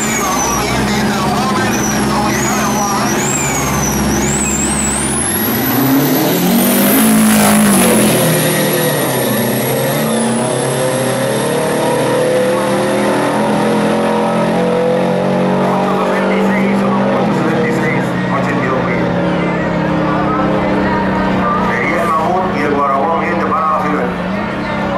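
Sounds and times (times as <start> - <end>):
high whine: 0.0 - 22.8
diesel trucks accelerating hard: 0.0 - 24.9.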